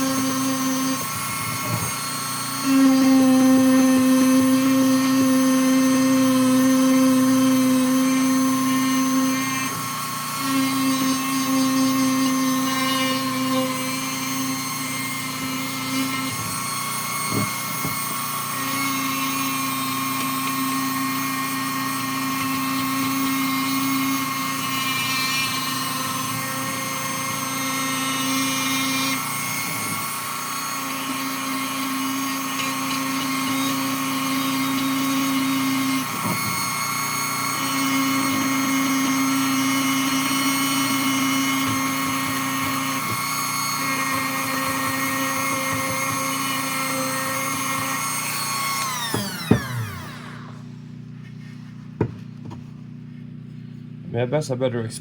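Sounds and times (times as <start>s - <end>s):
rotary tool high whine: 0.0s - 55.0s.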